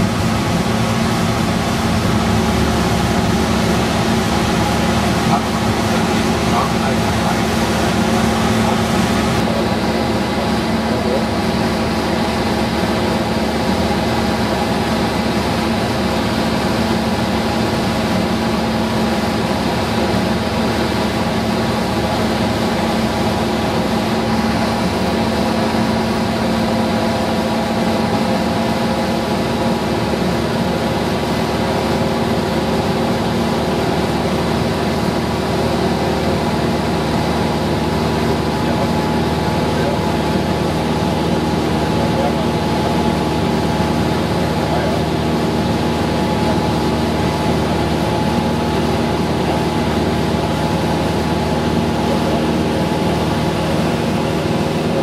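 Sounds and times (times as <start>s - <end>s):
airplane engine drone: 0.0s - 55.0s.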